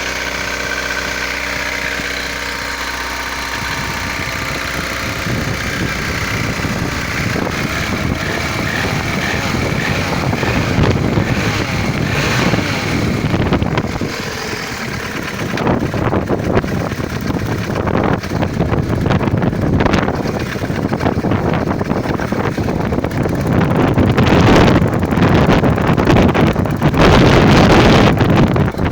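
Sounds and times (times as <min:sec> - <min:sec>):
car engine running: 0:00.0 - 0:28.9
engine knocking: 0:00.0 - 0:28.9
microphone rushing noise: 0:02.2 - 0:28.9.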